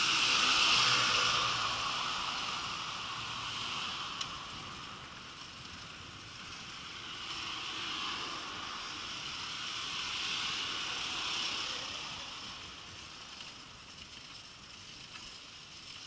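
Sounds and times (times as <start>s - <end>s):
passing traffic: 0.0s - 16.0s
wind and tyre hiss: 0.0s - 16.0s.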